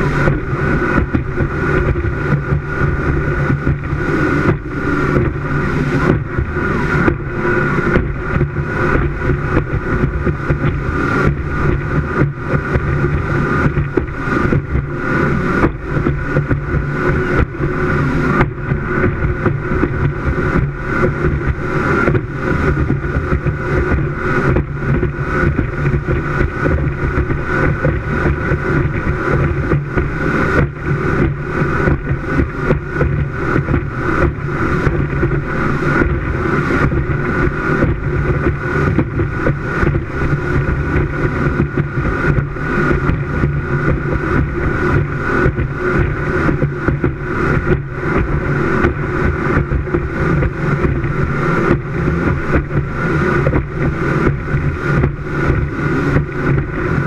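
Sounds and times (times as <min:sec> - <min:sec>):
speedboat engines running: 0:00.0 - 0:57.0
wind buffeting microphone: 0:00.0 - 0:57.0.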